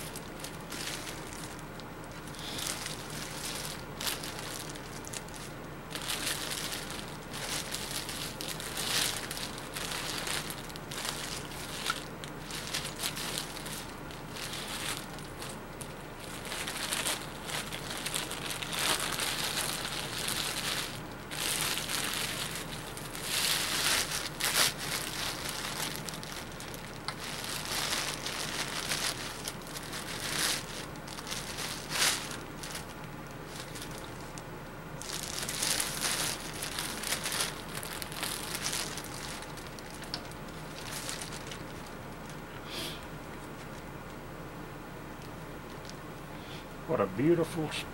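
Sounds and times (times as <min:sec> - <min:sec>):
plastic bag crinkling: 0:00.0 - 0:42.6, 0:43.4 - 0:44.2.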